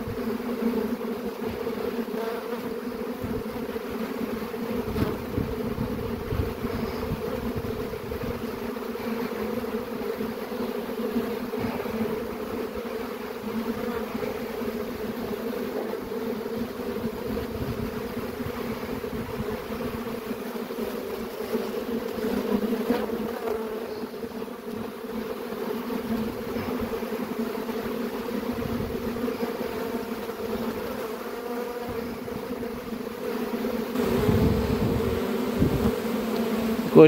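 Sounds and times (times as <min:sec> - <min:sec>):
bees buzzing: 0:00.0 - 0:37.0.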